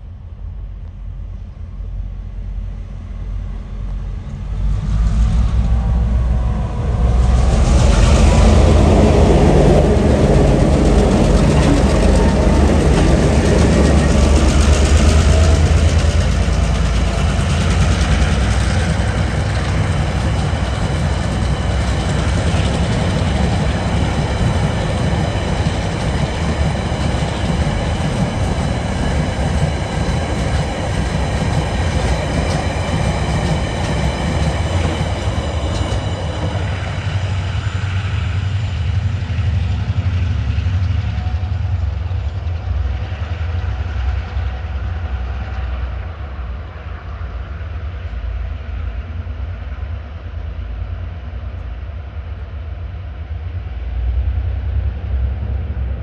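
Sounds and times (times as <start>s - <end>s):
train wagons rumbling over rails: 1.4s - 52.5s.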